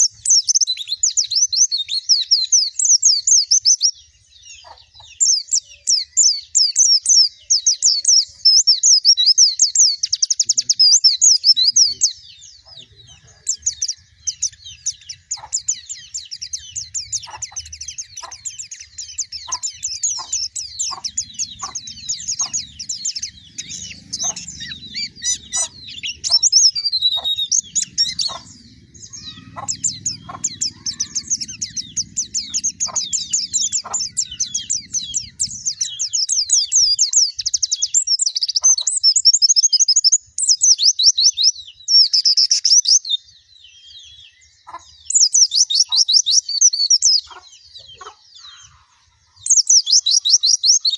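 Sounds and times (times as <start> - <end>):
bird twittering chirps: 0.0 - 50.9.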